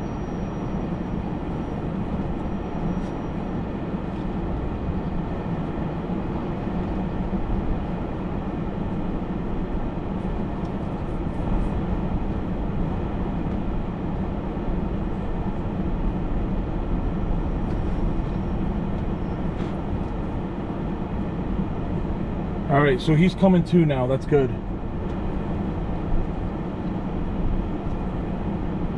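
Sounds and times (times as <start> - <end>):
engine and road noise in cabin: 0.0 - 28.9.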